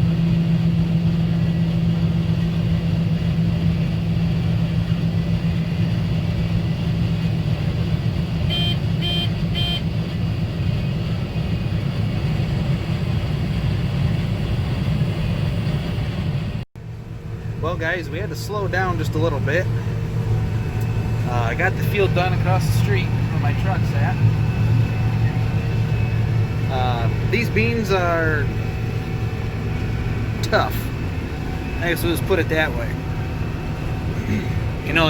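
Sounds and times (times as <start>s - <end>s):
combine harvester humming: 0.0s - 35.0s.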